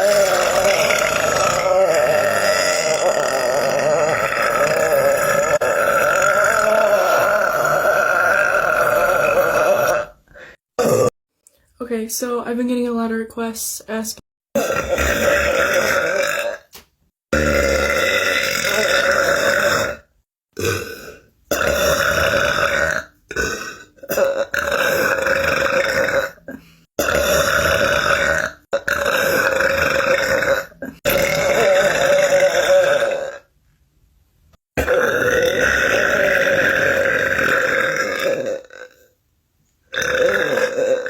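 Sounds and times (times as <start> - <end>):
long human burps: 0.0 - 11.2, 14.6 - 16.7, 17.3 - 33.6, 34.8 - 39.2, 39.9 - 41.0.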